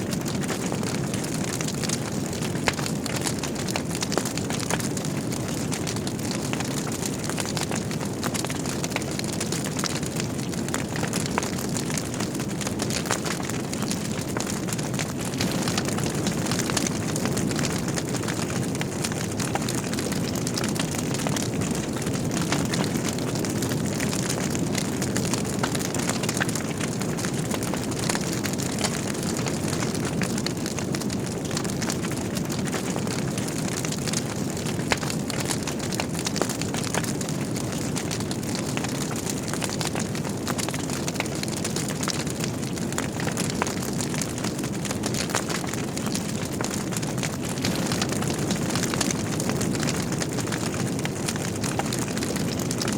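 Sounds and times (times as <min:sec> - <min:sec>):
fire crackling and popping: 0:00.0 - 0:52.9
fire flames rumbling: 0:00.0 - 0:52.9.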